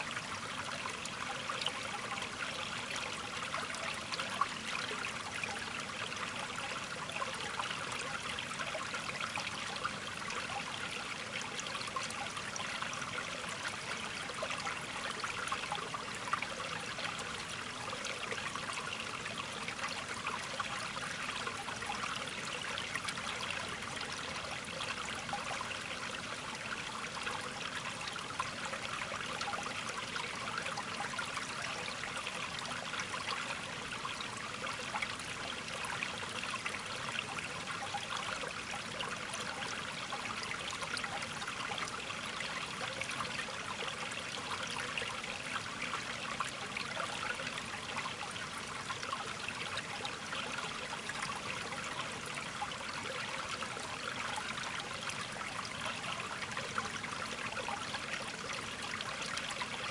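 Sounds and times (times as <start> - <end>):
running trickling water: 0.0 - 59.9.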